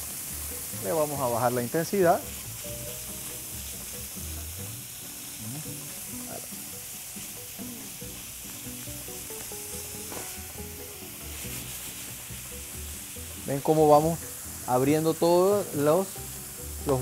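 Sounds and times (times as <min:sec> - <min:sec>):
meat sizzling in a frying pan: 0:00.0 - 0:17.0
soft background music: 0:00.0 - 0:17.0.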